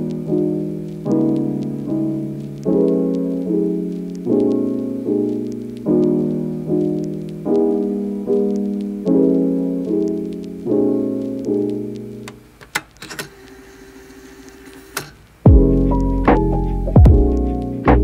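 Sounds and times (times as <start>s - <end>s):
soft piano chords: 0.0s - 12.5s, 15.4s - 18.0s.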